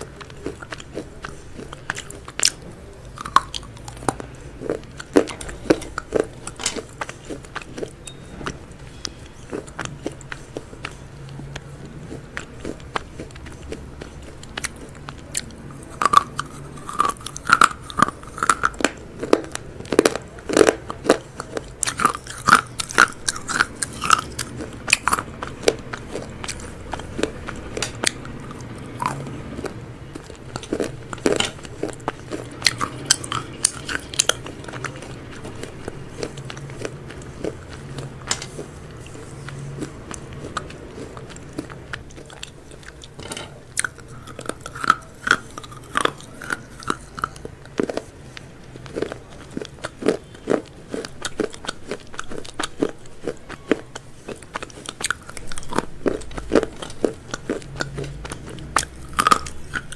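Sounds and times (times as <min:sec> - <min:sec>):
crunching fried chicken: 0:00.0 - 0:59.9
soft chewing: 0:00.0 - 0:59.9.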